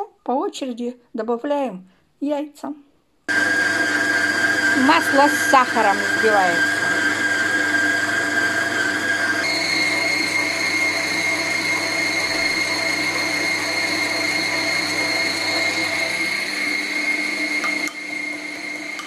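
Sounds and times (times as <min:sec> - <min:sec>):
stand mixer motor whine: 0:03.3 - 0:19.0.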